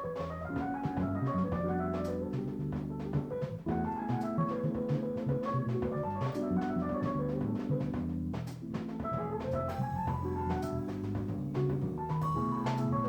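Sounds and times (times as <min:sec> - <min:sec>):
double bass line: 0:00.0 - 0:13.0
keyboard chords: 0:00.0 - 0:13.0.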